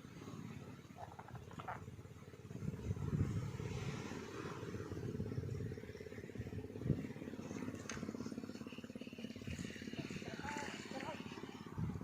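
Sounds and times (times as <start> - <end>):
engine running low: 0.0 - 12.0.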